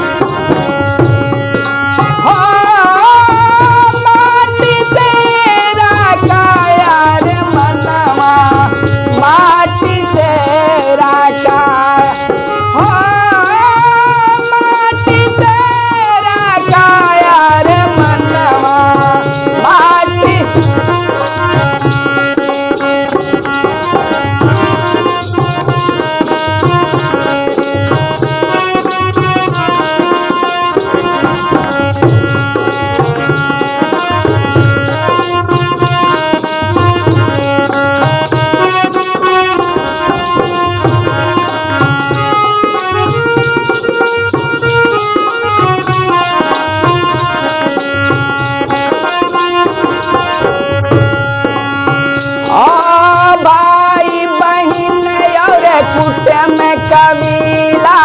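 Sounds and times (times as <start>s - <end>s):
steady drum beat: 0.0s - 51.2s
held melody notes: 0.0s - 58.0s.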